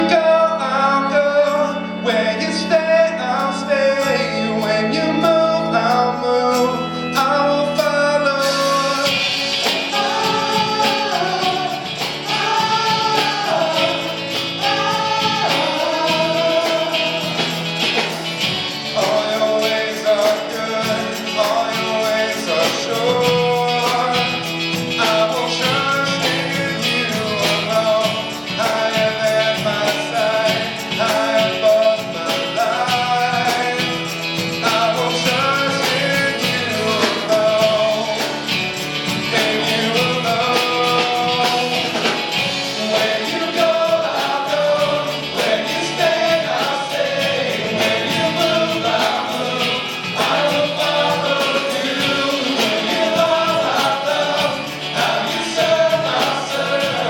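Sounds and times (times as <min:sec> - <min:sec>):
band accompaniment: 0:00.0 - 0:57.0
choir singing worship song: 0:00.0 - 0:57.0
drums: 0:06.5 - 0:57.0.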